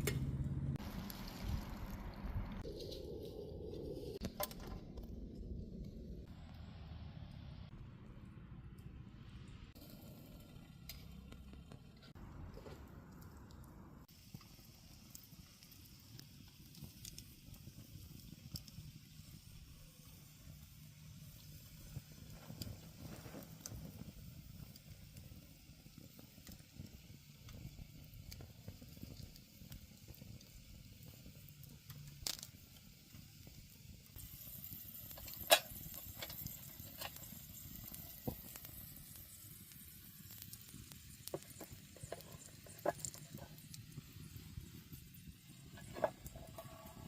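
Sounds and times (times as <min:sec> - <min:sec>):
campfire crackling and popping: 0:00.0 - 0:06.7, 0:09.8 - 0:47.0.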